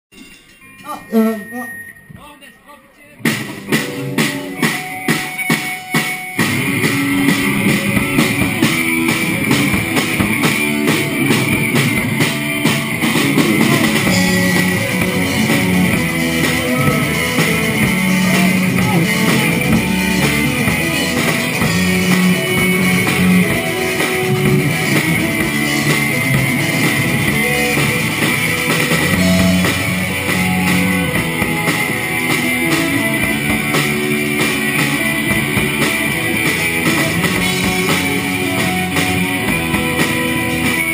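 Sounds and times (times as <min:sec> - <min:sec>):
bass guitar: 0:03.1 - 0:40.9
drum kit beat: 0:03.1 - 0:40.9
electric guitars: 0:03.2 - 0:40.9.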